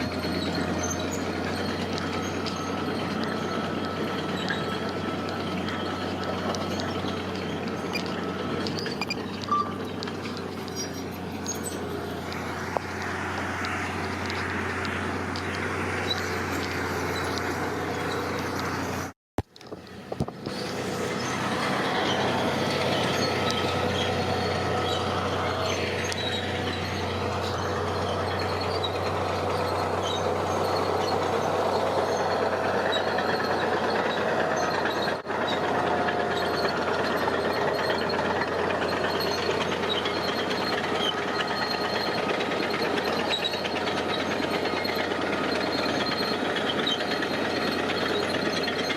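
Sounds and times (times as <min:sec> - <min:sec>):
diesel machinery running under load: 0:00.0 - 0:48.9.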